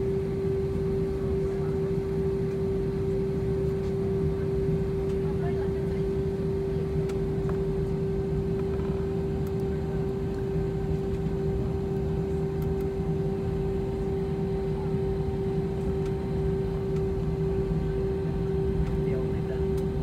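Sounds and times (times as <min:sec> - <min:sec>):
jet engines rumbling: 0:00.0 - 0:20.0
mid-pitched cabin hum: 0:00.0 - 0:20.0.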